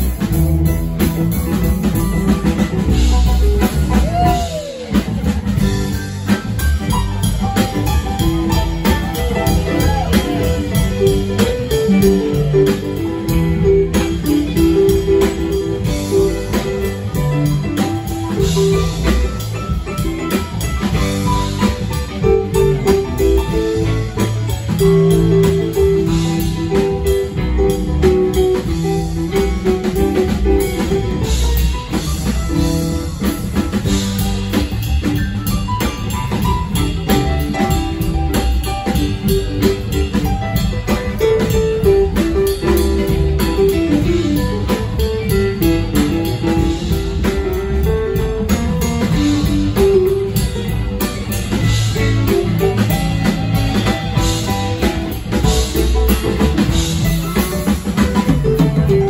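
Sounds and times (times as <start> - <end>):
drum kit: 0.0 - 59.0
electric guitar lead: 0.0 - 59.0
keyboard: 0.0 - 59.0.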